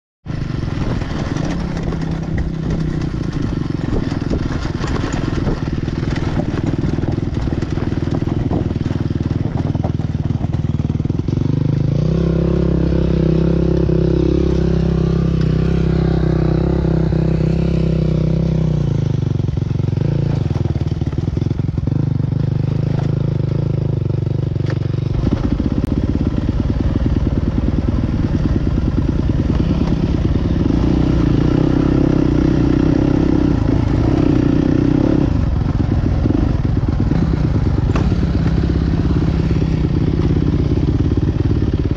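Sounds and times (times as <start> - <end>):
motorcycle engines revving: 0.3 - 41.9.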